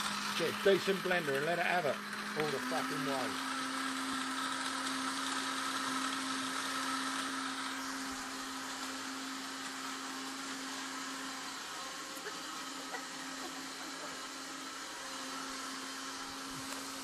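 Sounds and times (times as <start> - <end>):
blender motor whirring: 0.0 - 17.0.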